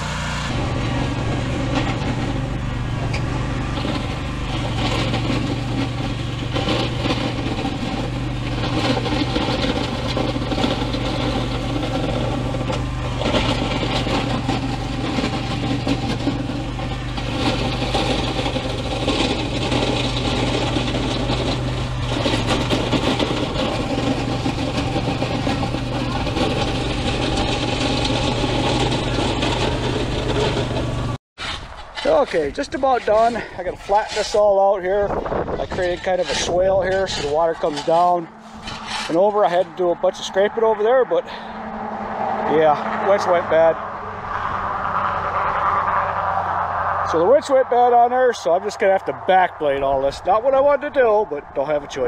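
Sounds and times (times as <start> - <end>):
blade pushing dirt and gravel: 0.0 - 43.8, 44.4 - 52.0
mower engine running: 0.0 - 52.0.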